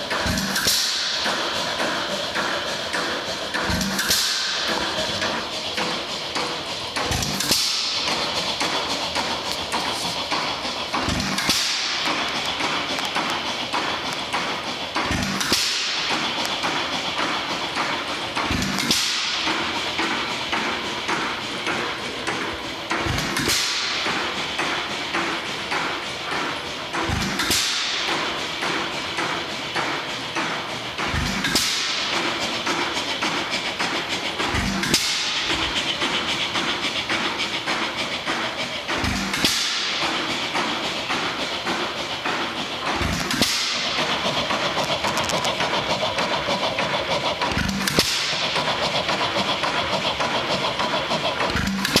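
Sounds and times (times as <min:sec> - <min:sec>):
regular clicking of coasting engine: 0:00.0 - 0:52.0.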